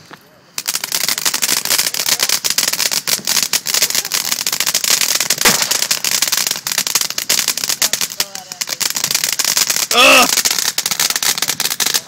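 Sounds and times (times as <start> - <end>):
firecrackers crackling: 0.0 - 12.0.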